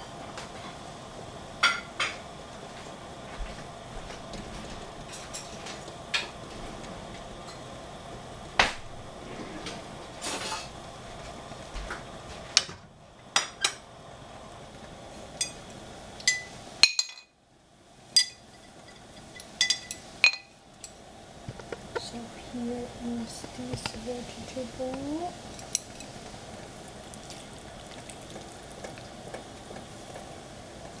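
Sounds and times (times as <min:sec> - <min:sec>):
low steady hiss: 0:00.0 - 0:31.0.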